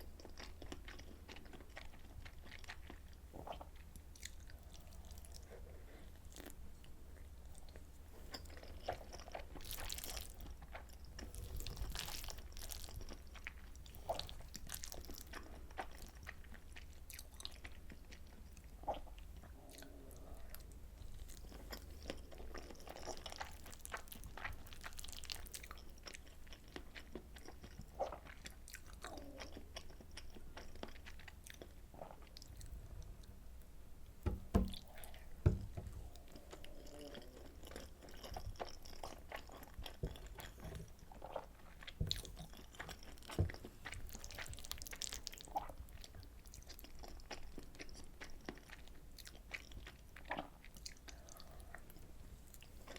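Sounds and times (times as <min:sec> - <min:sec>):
wet chewing and mouth sounds: 0:00.0 - 0:33.4, 0:34.2 - 0:52.9.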